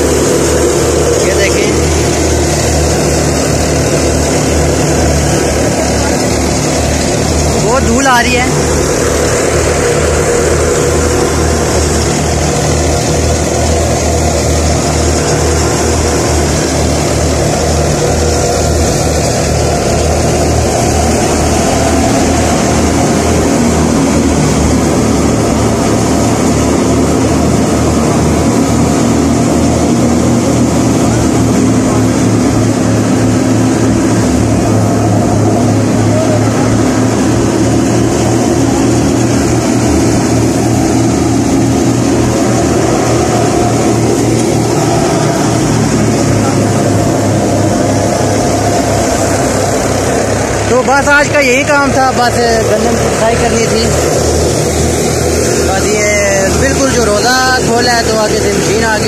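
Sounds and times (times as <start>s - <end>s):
deep engine hum: 0.0s - 59.0s
thresher mechanical drone: 0.0s - 59.0s.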